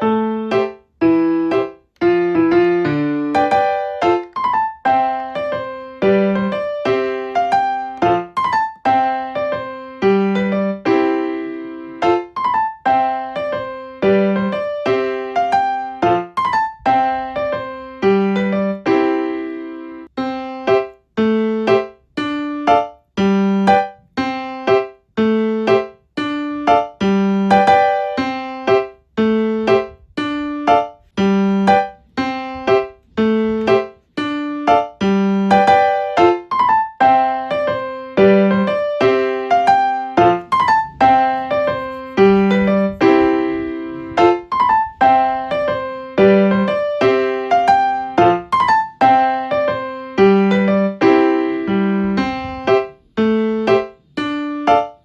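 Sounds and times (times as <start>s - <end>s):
background piano music: 0.0s - 55.0s.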